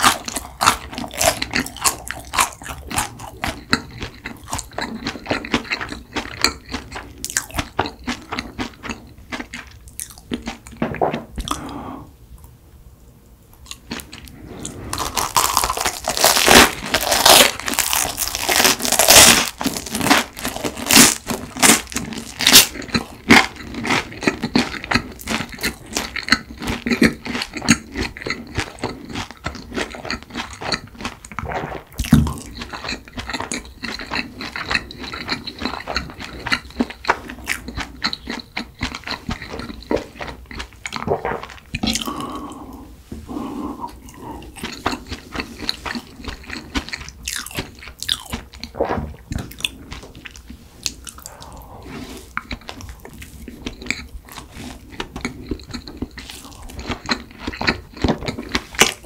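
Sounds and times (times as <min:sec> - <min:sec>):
crunching garlic bread: 0:00.0 - 0:10.6, 0:14.9 - 0:42.4, 0:44.0 - 0:48.7, 0:52.2 - 0:59.0
wet chewing: 0:00.0 - 0:11.8, 0:13.6 - 0:59.0.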